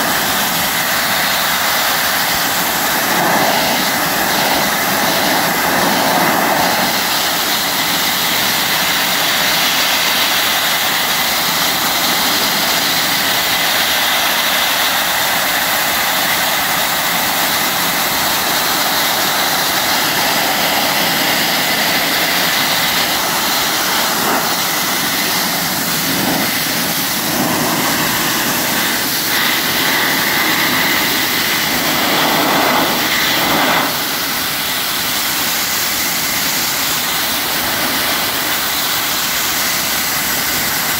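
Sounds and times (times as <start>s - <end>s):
abrasive blasting hiss on metal: 0.0s - 40.9s.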